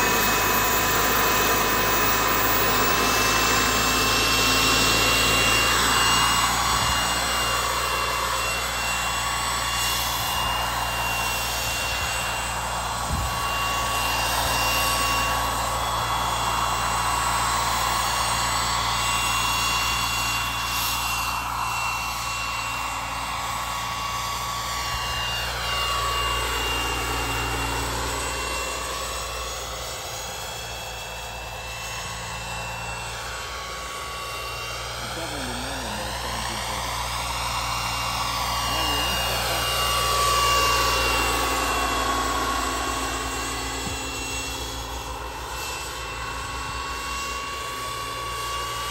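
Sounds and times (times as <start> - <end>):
rotor blades rushing: 0.0 - 48.9
turbine engine high whine: 0.0 - 48.9.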